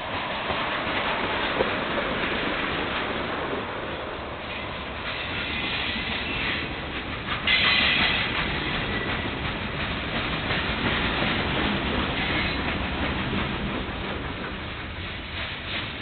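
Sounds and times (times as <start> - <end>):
clickety-clack at rail joints: 0.0 - 16.0
train wheels rumbling on rail: 0.0 - 16.0.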